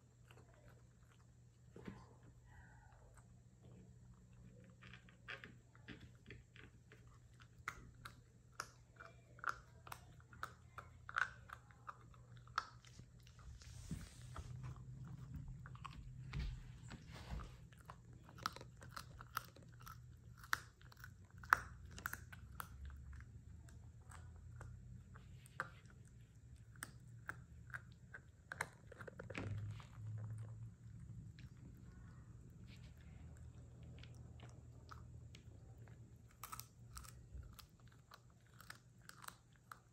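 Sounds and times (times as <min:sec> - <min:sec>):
faint low hum: 0:00.0 - 0:39.9
puppy crunching a dog chew: 0:04.1 - 0:39.9.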